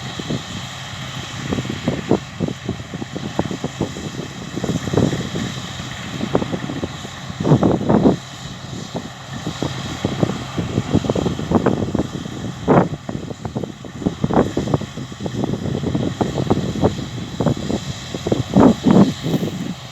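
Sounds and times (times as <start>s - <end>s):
combine harvester running: 0.0s - 19.9s
wind buffeting microphone: 0.0s - 19.9s.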